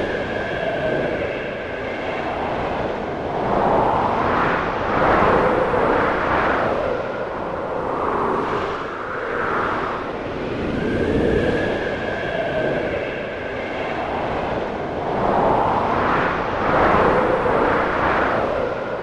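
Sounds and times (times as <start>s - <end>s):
gusting wind whistling: 0.0s - 19.0s.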